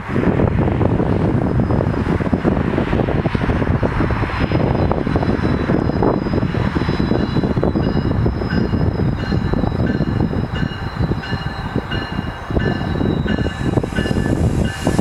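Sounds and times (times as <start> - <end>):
train rumbling roar: 0.0 - 15.0
wind buffeting microphone: 0.0 - 15.0.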